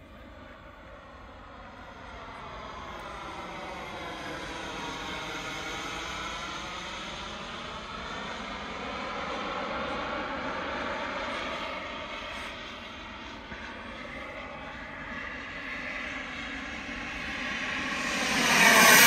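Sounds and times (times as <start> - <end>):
model jet turbine whine: 0.0 - 19.0.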